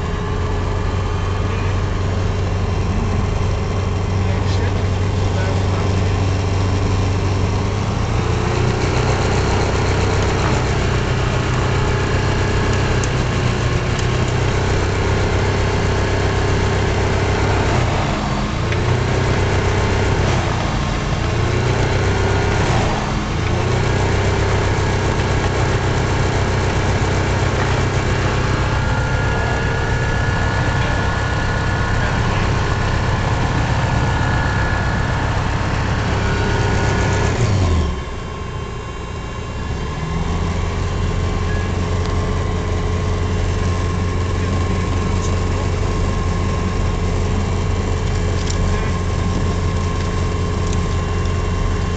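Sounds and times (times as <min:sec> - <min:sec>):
aircraft engine and propeller: 0:00.0 - 0:51.9.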